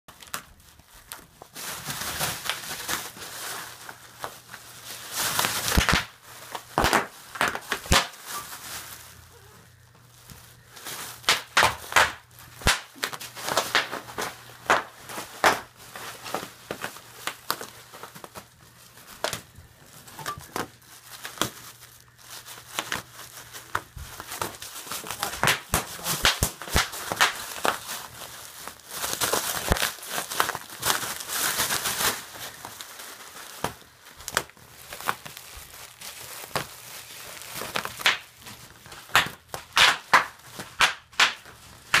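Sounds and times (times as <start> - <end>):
bubble wrap bubbles popping: 0.1 - 42.0
bubble wrap crinkling: 0.1 - 42.0.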